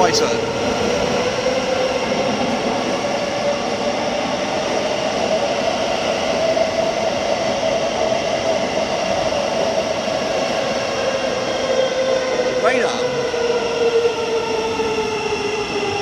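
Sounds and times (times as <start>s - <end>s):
electric train whine: 0.0s - 16.0s
train rumbling: 0.0s - 16.0s.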